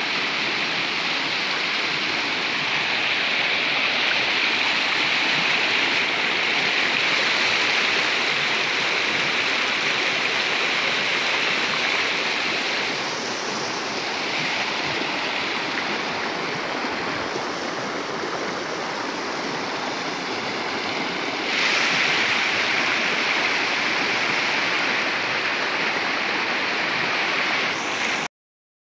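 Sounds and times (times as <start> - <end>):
stream rushing over rocks: 0.0 - 28.3.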